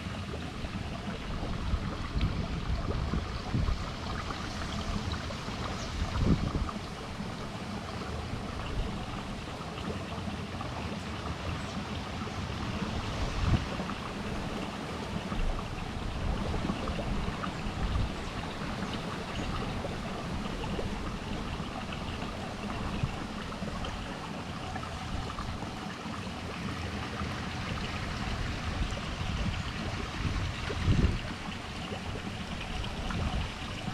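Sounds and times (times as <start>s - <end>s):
water lapping and trickling: 0.0s - 33.9s.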